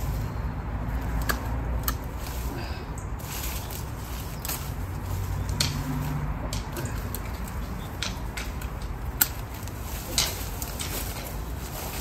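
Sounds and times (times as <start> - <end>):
secateurs snipping branch: 1.0 - 12.0.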